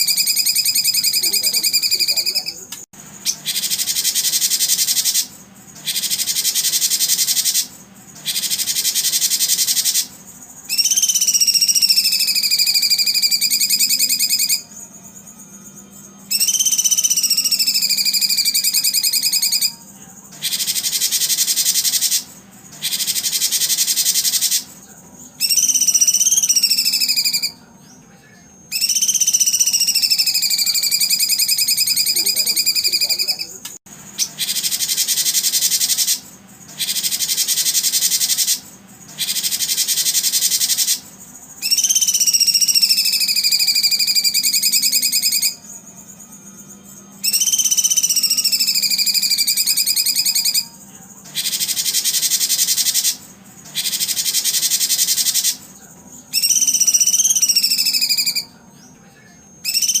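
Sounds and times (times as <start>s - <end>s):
songbird whistling and trilling: 0.0s - 15.4s, 16.0s - 24.7s, 25.3s - 28.0s, 28.7s - 33.6s, 34.2s - 59.0s, 59.6s - 60.0s.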